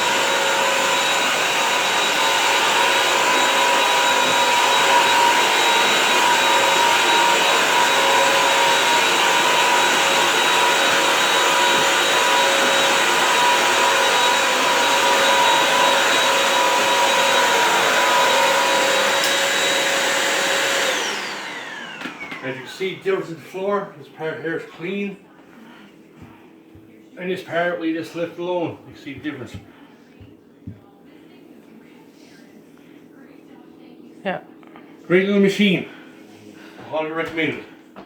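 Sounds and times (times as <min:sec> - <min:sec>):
floor cleaner suction whine: 0:00.0 - 0:38.0.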